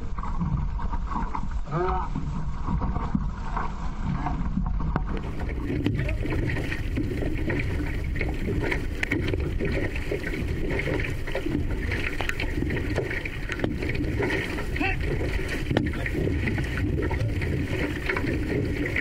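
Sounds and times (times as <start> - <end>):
low rumble: 0.0 - 19.0
paddle strokes: 0.0 - 19.0
water splashing along hull: 0.0 - 19.0.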